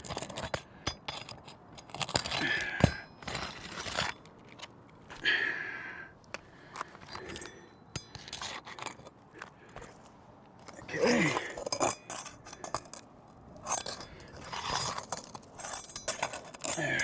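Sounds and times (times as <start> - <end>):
hand tools scraping shingles: 0.0 - 4.3, 7.0 - 10.0, 10.6 - 17.0.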